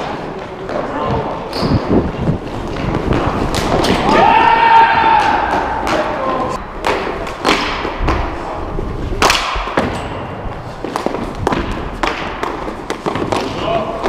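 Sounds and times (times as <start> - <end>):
hockey sticks and ball clacking: 0.0 - 8.5, 9.1 - 14.0.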